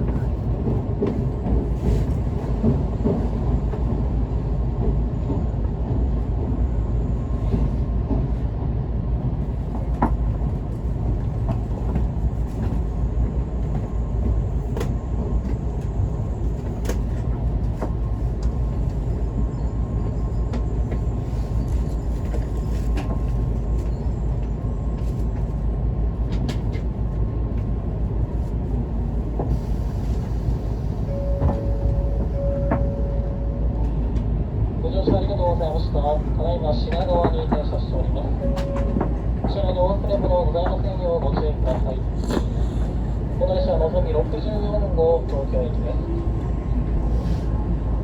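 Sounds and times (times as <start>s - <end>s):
train wheels rumbling: 0.0s - 48.0s.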